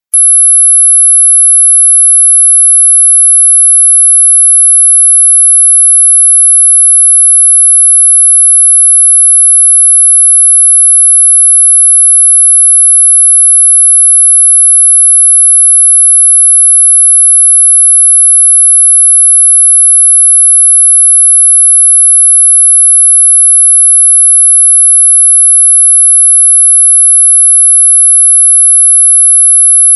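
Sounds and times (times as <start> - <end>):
high-pitched sine tone: 0.0 - 29.9.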